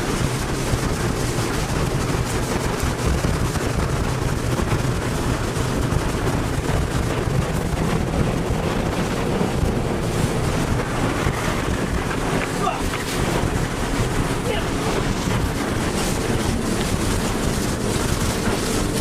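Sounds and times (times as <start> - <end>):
rushing wind: 0.0 - 19.0.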